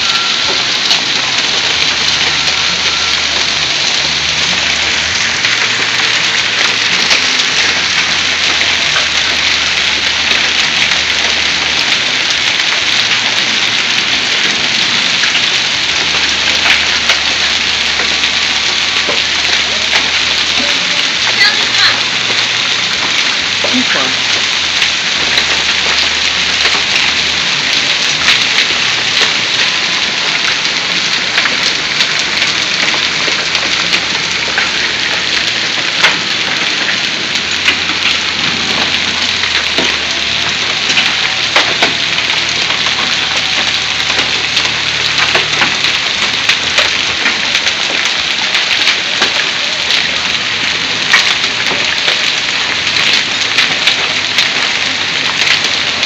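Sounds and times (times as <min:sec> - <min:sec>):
hailstones ticking on surfaces: 0:00.0 - 0:56.0
heavy rain hissing: 0:00.0 - 0:56.0.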